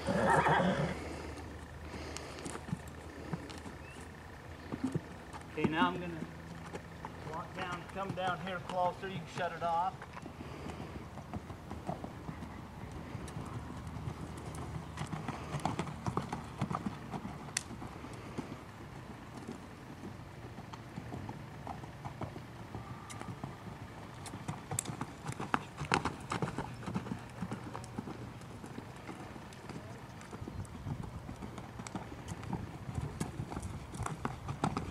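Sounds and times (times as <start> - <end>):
horse hoofbeats on dirt: 0.0 - 34.9.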